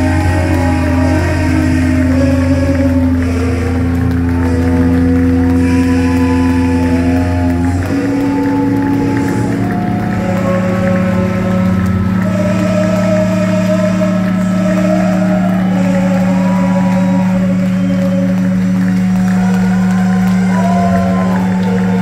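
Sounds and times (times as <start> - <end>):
electric guitar feedback: 0.0 - 22.0.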